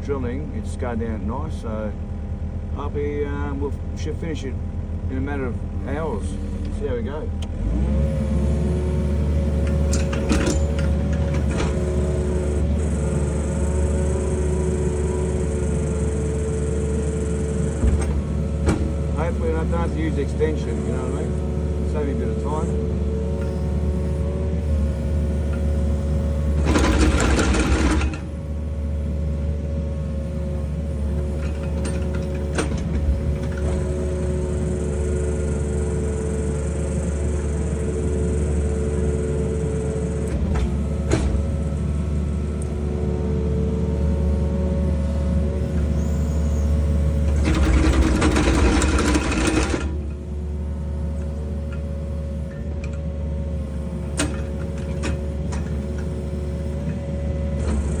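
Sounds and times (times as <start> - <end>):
excavator engine running: 0.0 - 58.0
hydraulic auger drilling: 5.4 - 58.0.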